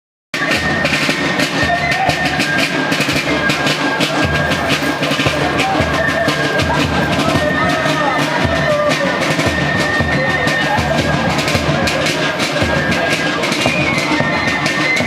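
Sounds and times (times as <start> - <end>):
steady drum beat: 0.4 - 15.0.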